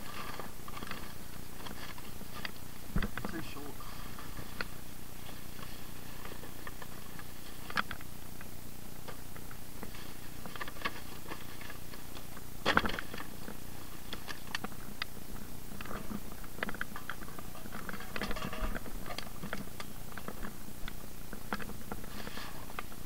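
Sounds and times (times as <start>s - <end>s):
small clicks and rattles of objects: 0.0s - 23.0s
steady hiss: 0.0s - 23.0s.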